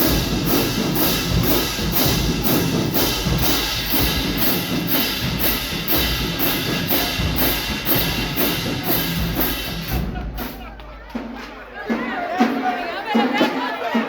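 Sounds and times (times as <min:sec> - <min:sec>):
drums and cymbals beat: 0:00.0 - 0:14.0
marching band playing: 0:00.0 - 0:14.0.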